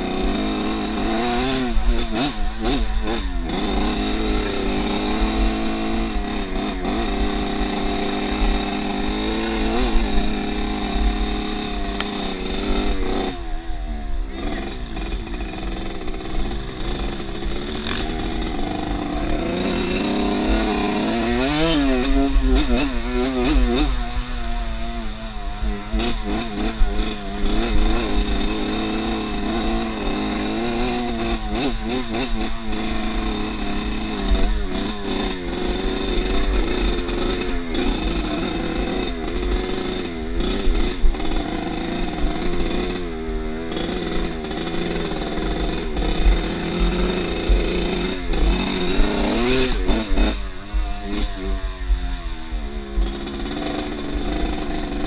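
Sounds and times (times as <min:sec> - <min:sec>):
off-road motorcycle engine revving: 0:00.0 - 0:55.0.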